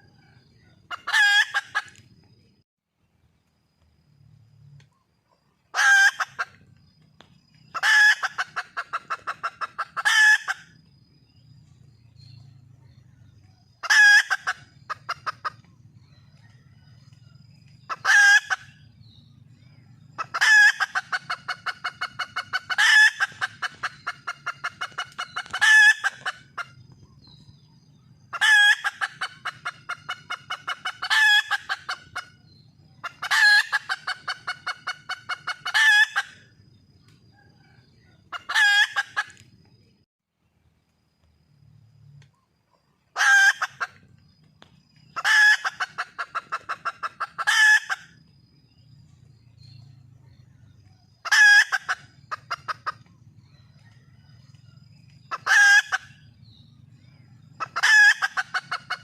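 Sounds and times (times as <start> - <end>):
hen calling and clucking: 0.0 - 2.4, 4.9 - 10.9, 12.3 - 39.5, 42.3 - 44.2, 44.9 - 48.3, 49.7 - 56.4, 57.2 - 59.0.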